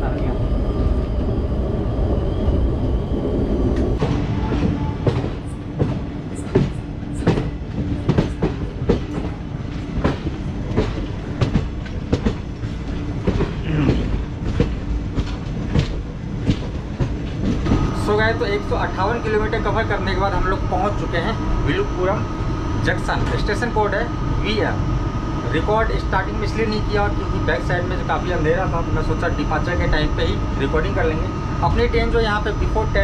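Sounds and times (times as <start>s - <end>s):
rumble of train wheels on rails: 0.0s - 33.0s.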